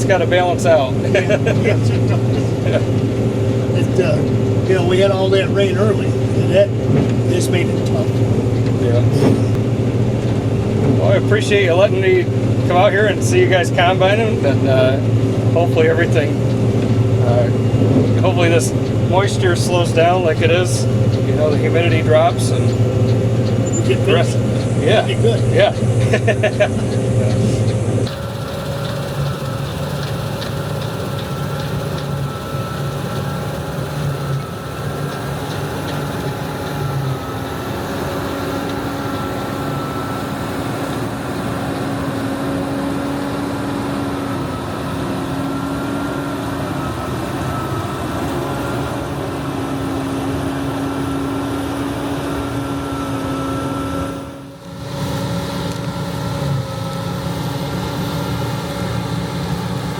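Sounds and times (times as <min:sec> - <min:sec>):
combine harvester drone: 0:00.0 - 0:59.9.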